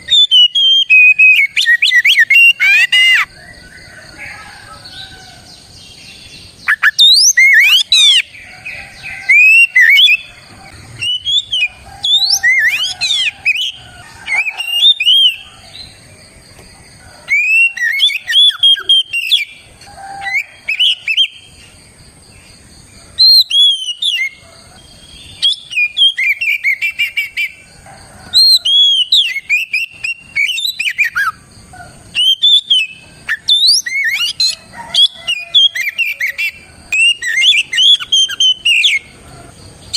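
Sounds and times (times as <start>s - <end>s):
bird singing whistled notes: 0.0s - 4.4s, 5.8s - 16.0s, 17.3s - 21.5s, 23.2s - 27.6s, 28.3s - 31.4s, 32.1s - 39.1s.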